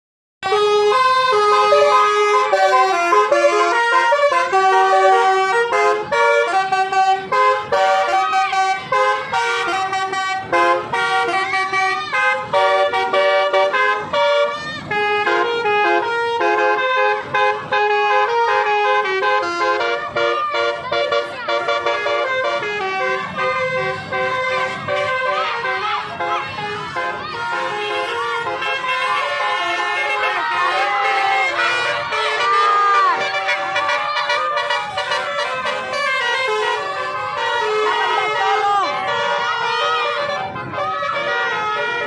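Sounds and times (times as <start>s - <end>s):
multi-tone musical air horns: 0.4s - 42.0s.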